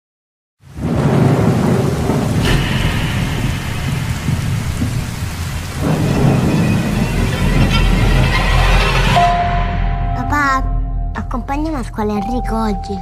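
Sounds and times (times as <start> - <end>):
thunder crack: 0.6 - 12.1
heavy rain pouring: 0.6 - 13.0
thunder rumbling: 0.6 - 13.0.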